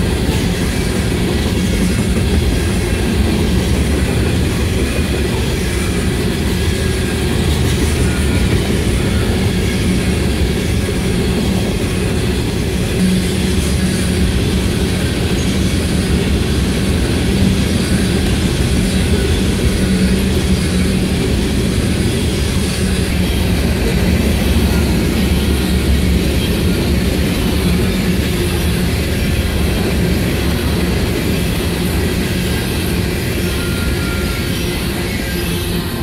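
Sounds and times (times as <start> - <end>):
freight train wheels rumbling on rail: 0.0 - 36.0.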